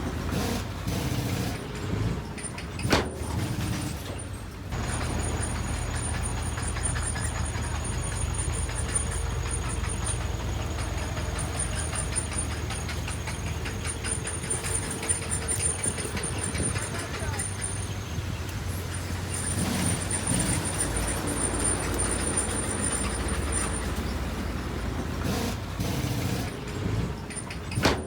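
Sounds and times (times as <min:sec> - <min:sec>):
heavy diesel engine droning: 0:00.0 - 0:28.0.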